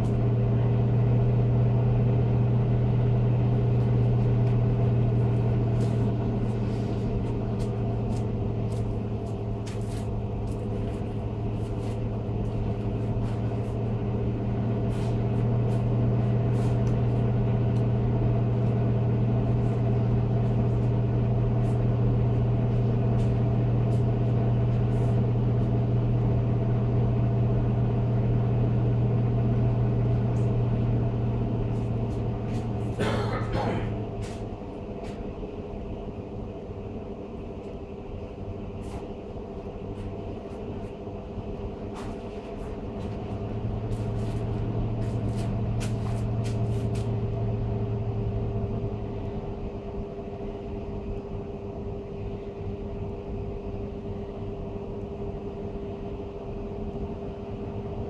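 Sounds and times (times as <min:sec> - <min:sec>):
fan humming: 0:00.0 - 0:58.0.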